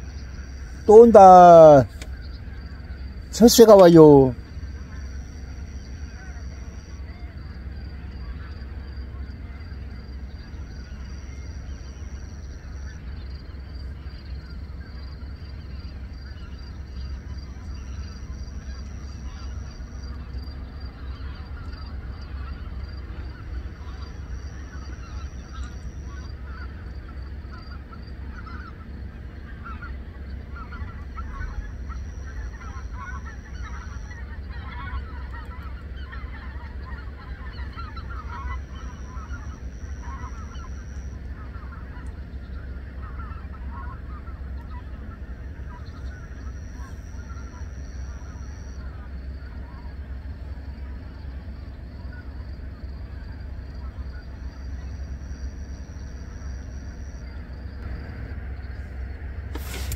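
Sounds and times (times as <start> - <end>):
geese calling: 0.0 - 59.9
steady low rumble: 1.8 - 59.9.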